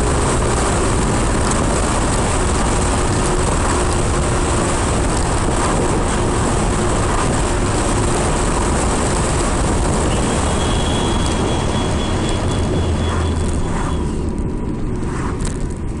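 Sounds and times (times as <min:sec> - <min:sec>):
car engine running: 0:00.0 - 0:16.0
road noise: 0:00.0 - 0:16.0.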